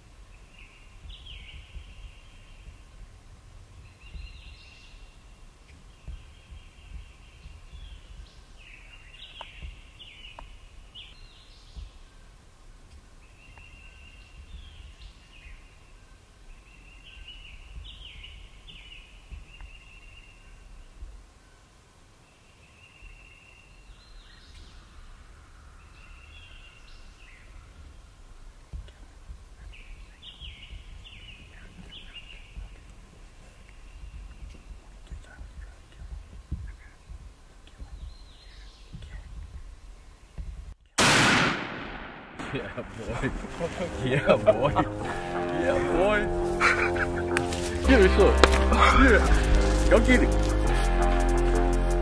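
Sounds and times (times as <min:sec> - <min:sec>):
songbirds trilling: 0:00.0 - 0:40.5, 0:42.9 - 0:50.8
low wind rumble: 0:00.0 - 0:52.0.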